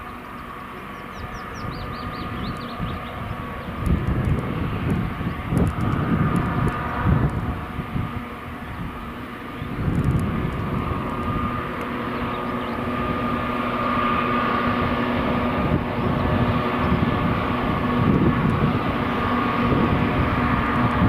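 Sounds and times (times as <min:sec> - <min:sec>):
locomotive drone: 0:00.0 - 0:21.0
train wheels rumbling on rail: 0:01.0 - 0:21.0.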